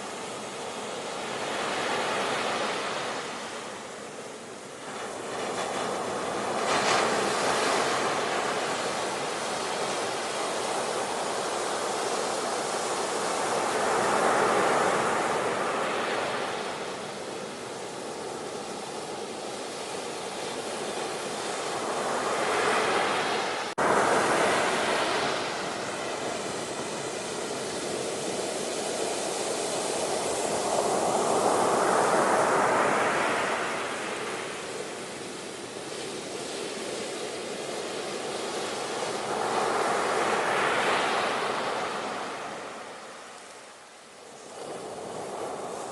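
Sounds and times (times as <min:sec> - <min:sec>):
ocean waves breaking: 0:00.0 - 0:45.9.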